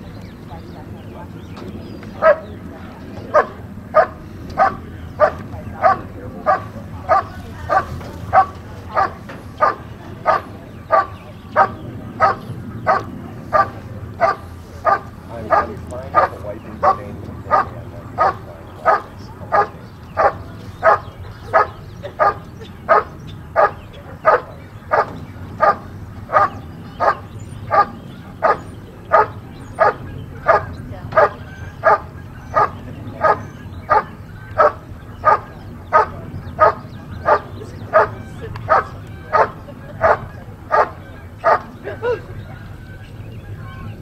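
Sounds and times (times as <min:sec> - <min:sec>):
dog barking: 0:02.2 - 0:02.5, 0:03.3 - 0:41.7.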